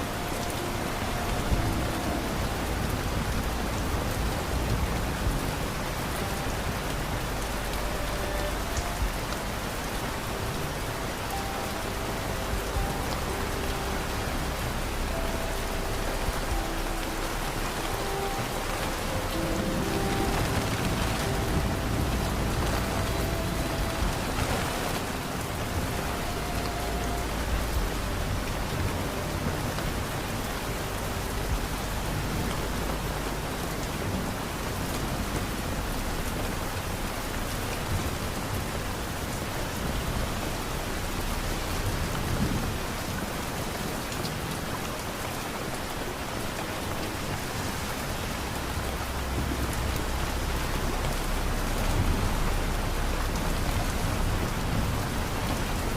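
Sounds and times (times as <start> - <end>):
distant thunder rumble: 0.0 - 55.9
steady rain falling: 0.0 - 55.9.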